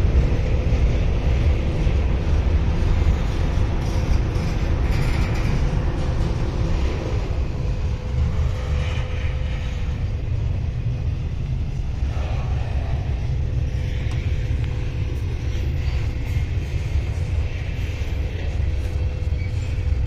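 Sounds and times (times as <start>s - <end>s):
faint steady hum: 0.0s - 20.0s
freight train wheels rumbling: 0.0s - 20.0s.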